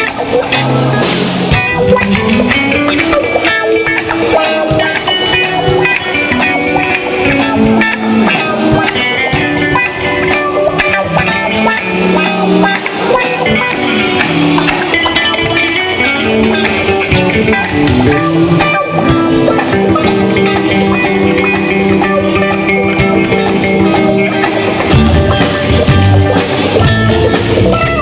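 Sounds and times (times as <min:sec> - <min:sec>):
drum kit beat: 0:00.0 - 0:28.0
guitar playing: 0:00.0 - 0:28.0.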